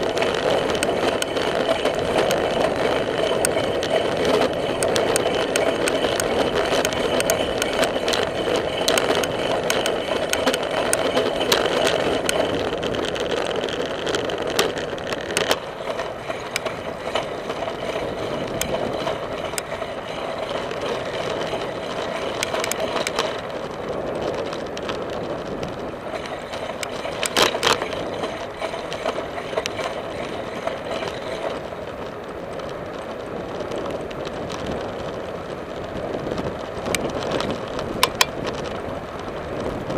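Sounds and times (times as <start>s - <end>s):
bicycle tyre and wind noise: 0.0s - 39.9s
bike rattling and clicking: 0.0s - 39.9s.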